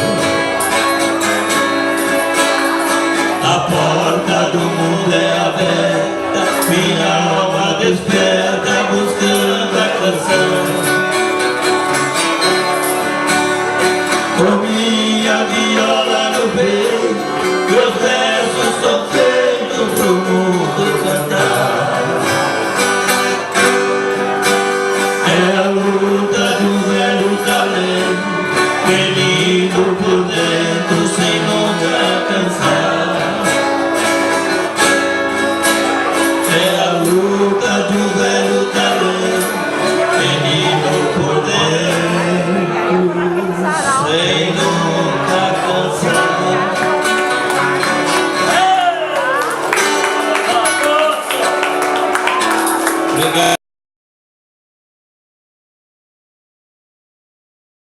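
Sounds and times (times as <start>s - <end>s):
person singing: 0.0s - 23.0s, 25.0s - 51.6s.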